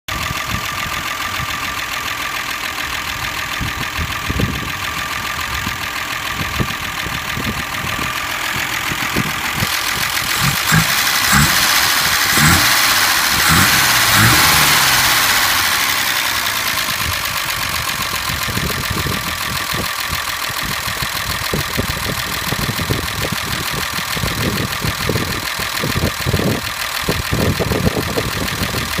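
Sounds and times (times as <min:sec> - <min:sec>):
car engine idling: 0:00.1 - 0:29.0.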